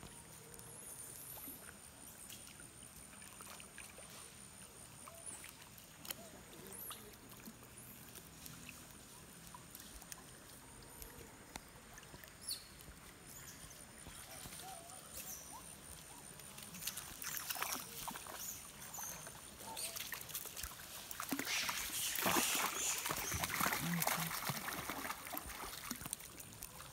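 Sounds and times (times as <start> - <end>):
small ticks and rustles: 0.0 - 26.9.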